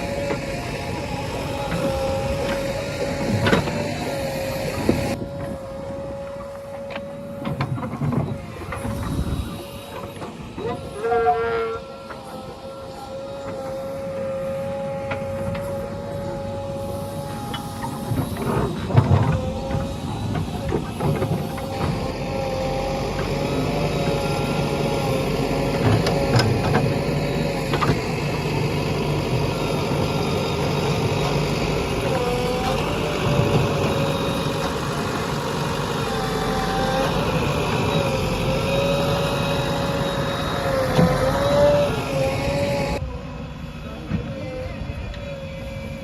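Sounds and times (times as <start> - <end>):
diesel engine running: 0.0 - 46.0
steady whine: 0.0 - 46.0.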